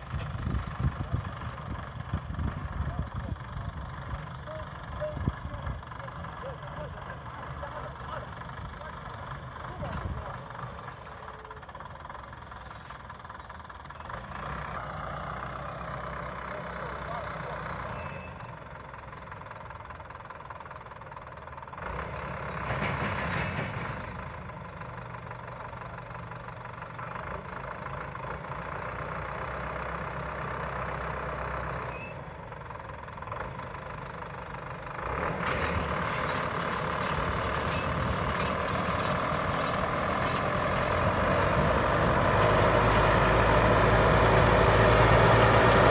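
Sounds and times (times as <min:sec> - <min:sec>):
round baler running: 0:00.0 - 0:45.9.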